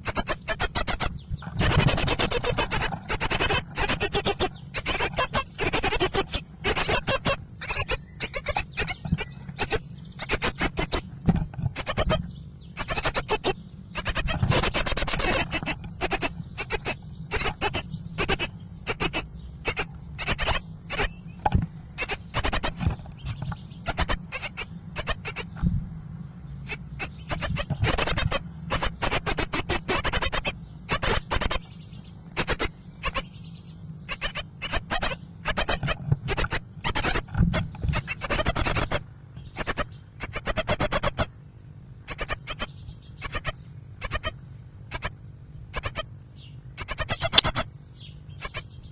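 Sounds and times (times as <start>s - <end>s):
nestlings begging calls: 0.0s - 48.9s.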